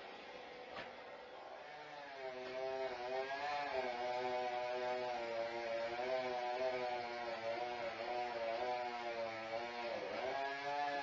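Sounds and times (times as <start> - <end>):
chainsaw engine running: 1.4 - 11.0.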